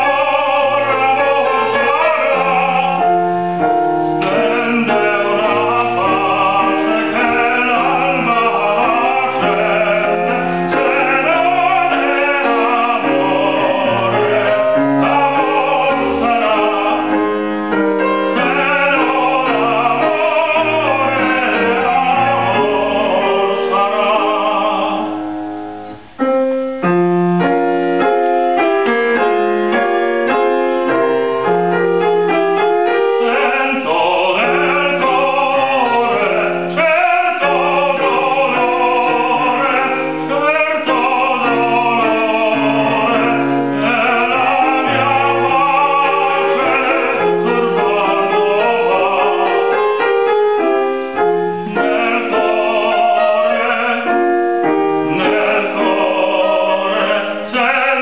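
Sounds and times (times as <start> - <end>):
man singing opera: 0.0 - 25.4, 27.4 - 58.0
grand piano playing: 0.0 - 58.0.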